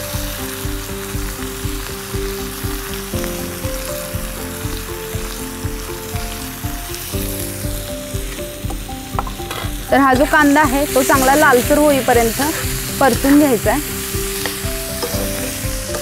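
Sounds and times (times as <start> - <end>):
onion sizzling in hot oil: 0.0 - 16.0
soft background music: 0.0 - 16.0.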